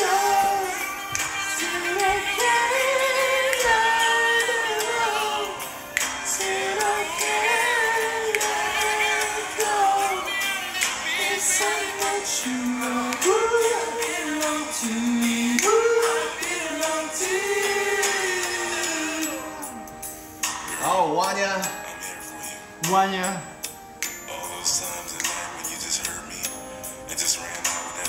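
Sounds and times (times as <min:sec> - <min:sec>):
pop song with singing: 0:00.0 - 0:28.0.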